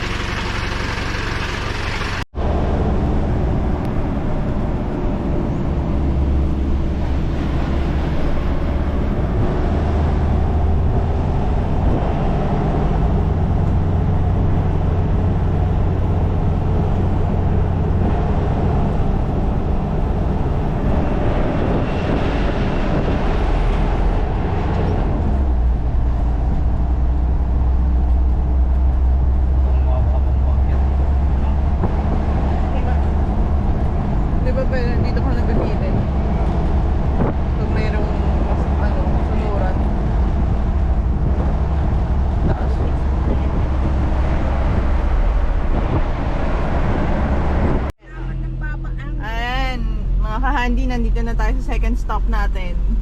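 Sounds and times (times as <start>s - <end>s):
road and tyre noise: 0.0s - 53.0s
vehicle engine hum: 0.0s - 53.0s.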